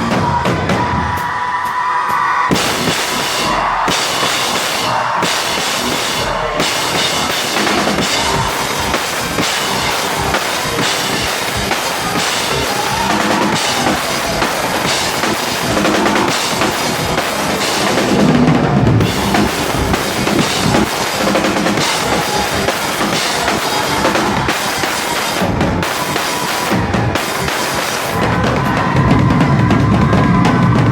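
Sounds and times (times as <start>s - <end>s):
bass drum and snare beat: 2.5s - 30.9s
rock band playing live: 2.5s - 30.9s.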